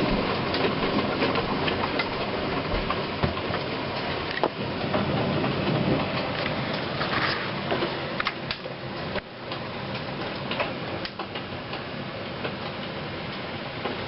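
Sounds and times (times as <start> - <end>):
heavy rain hissing: 0.0 - 14.0
rain ticking on hard surface: 0.0 - 14.0.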